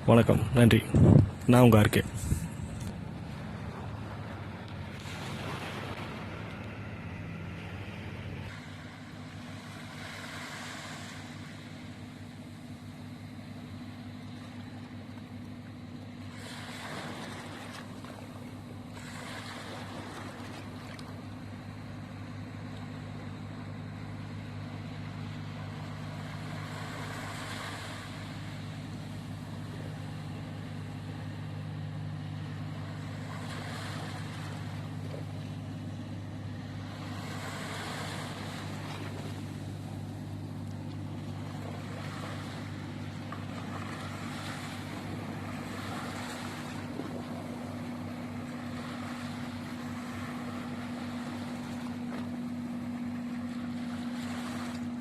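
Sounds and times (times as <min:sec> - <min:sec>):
boat engine humming: 0:00.0 - 0:55.0
water washing against hull: 0:00.0 - 0:55.0.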